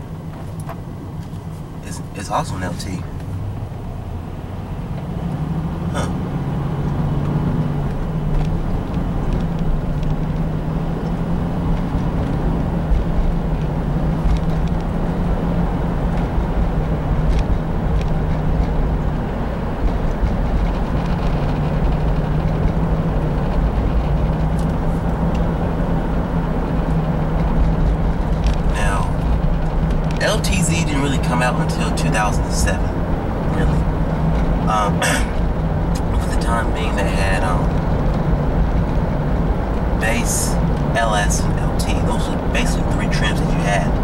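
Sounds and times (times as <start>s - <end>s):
road noise: 0.0s - 44.0s
truck engine hum: 0.0s - 44.0s.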